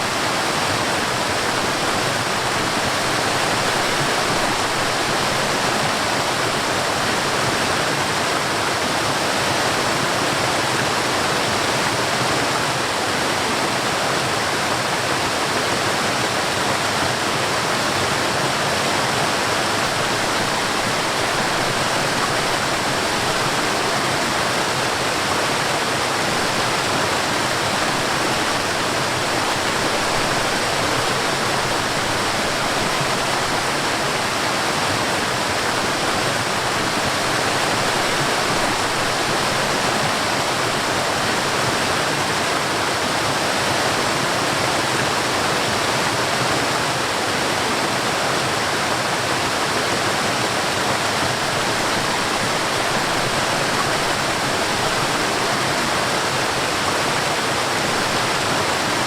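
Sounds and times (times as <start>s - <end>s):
rushing stream and waterfall: 0.0s - 59.0s.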